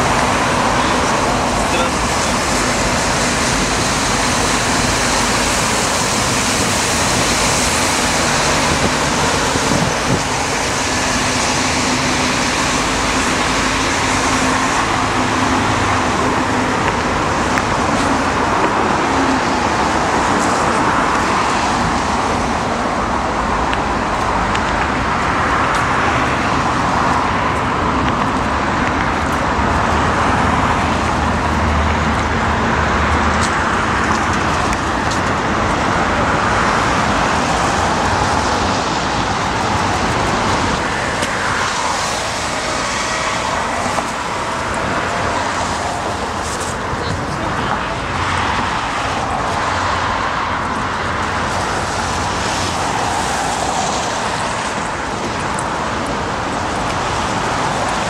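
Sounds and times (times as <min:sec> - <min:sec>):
traffic rush of passing cars: 0:00.0 - 0:58.0.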